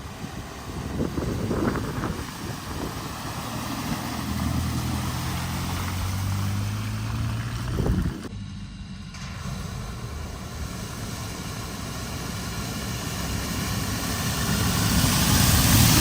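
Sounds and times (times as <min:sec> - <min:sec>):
water splashing and rushing: 0:00.0 - 0:08.3, 0:09.4 - 0:16.0
low engine note: 0:00.0 - 0:16.0.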